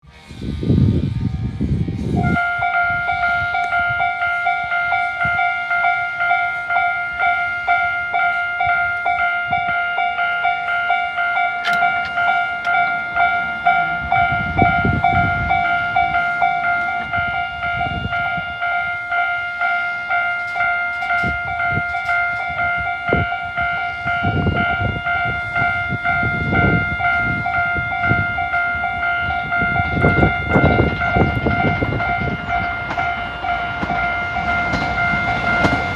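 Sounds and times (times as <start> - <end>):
level crossing alarm dinging: 2.2 - 35.9
train wheels clacking over rail joints: 3.2 - 18.9, 20.1 - 35.9.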